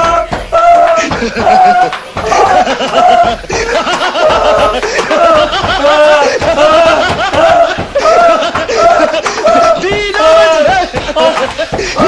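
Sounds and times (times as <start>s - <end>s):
men laughing loudly: 0.0s - 12.0s
people shouting: 0.0s - 12.0s.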